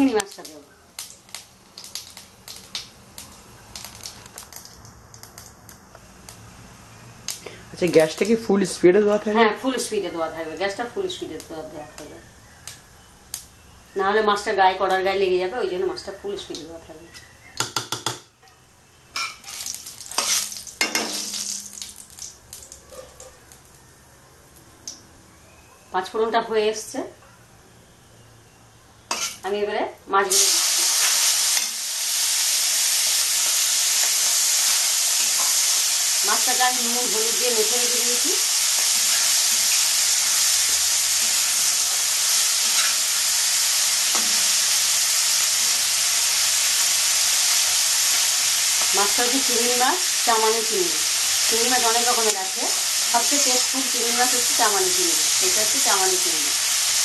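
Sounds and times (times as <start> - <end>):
seeds sizzling in hot oil: 0.0 - 16.8, 18.8 - 25.6, 28.0 - 29.6, 30.2 - 57.0.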